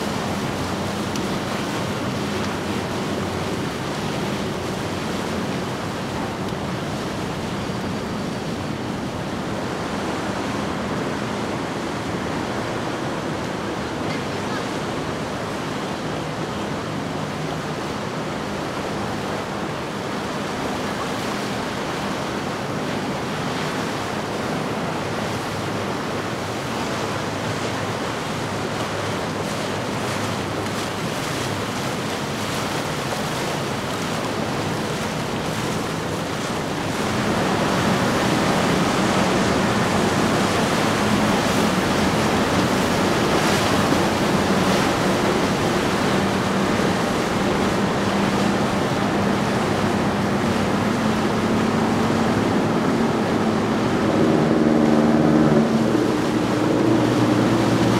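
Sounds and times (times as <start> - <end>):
outboard motors droning: 0.0 - 57.9
water rushing from boat wakes: 0.0 - 57.9
wind: 0.0 - 57.9.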